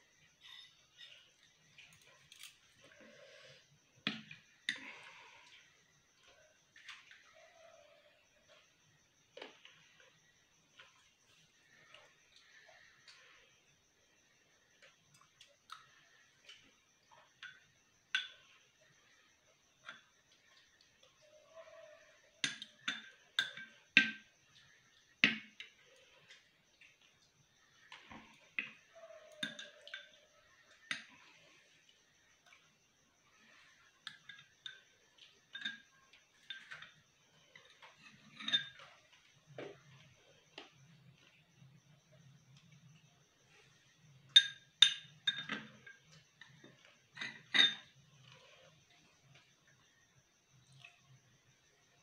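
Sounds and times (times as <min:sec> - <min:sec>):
faint eating sounds: 0:00.0 - 0:52.0.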